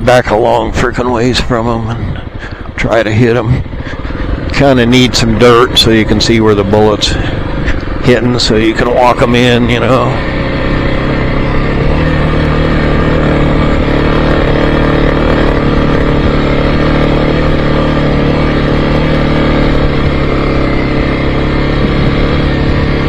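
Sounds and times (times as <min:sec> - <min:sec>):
road noise: 0:00.0 - 0:23.0
vehicle engine droning under load: 0:00.0 - 0:23.0.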